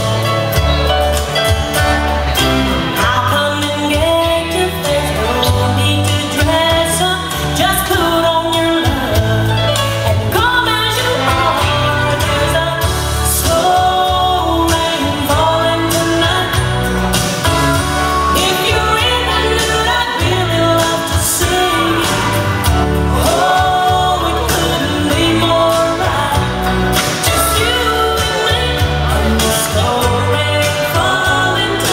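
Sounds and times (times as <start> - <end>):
country-pop song with singing: 0.0 - 31.9.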